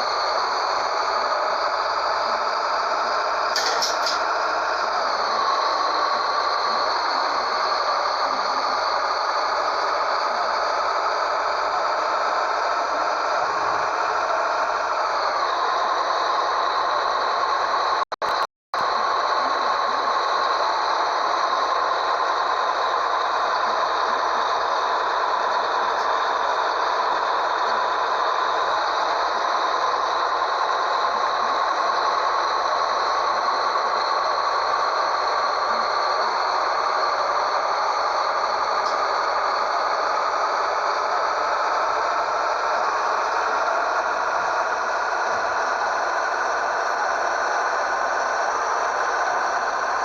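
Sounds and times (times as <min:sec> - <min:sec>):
diesel truck engine drone: 0:00.0 - 0:50.0
rising whine: 0:00.0 - 0:50.0.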